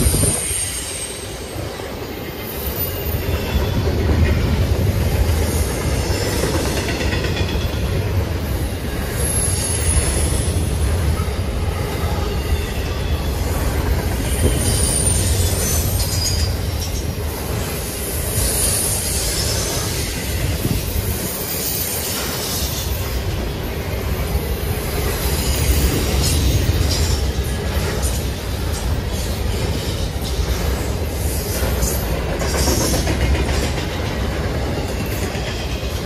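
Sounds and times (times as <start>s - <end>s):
freight train cars rumbling: 0.0s - 36.0s
train wheels squealing: 0.0s - 36.0s.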